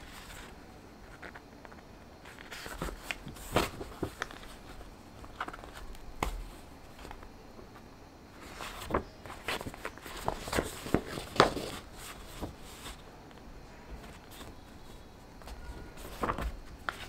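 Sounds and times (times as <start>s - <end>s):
paper pages rustling and crinkling: 0.0s - 17.0s.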